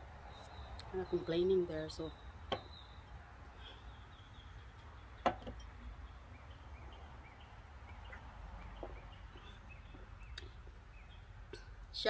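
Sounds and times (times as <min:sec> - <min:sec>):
low outdoor rumble: 0:00.0 - 0:12.0
small bird chirping: 0:00.2 - 0:11.7.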